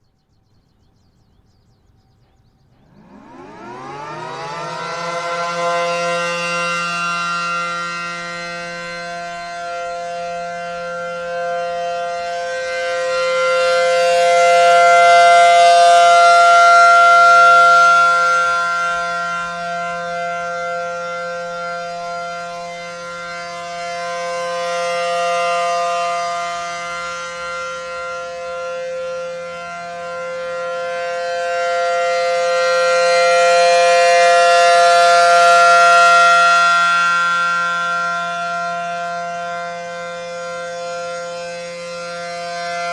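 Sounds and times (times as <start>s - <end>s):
rotating warning siren: 1.1s - 42.9s.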